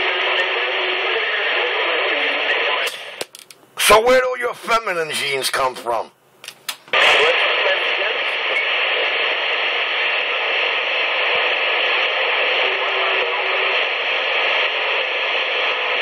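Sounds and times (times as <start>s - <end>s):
radio static hiss: 0.0s - 6.1s, 6.9s - 16.0s.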